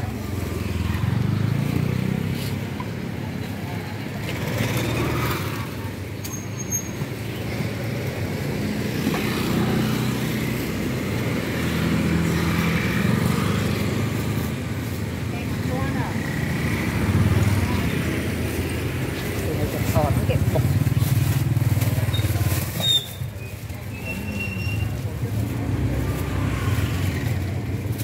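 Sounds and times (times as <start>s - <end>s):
busy street background: 0.0s - 28.0s
motorbike engines passing by: 0.0s - 28.0s.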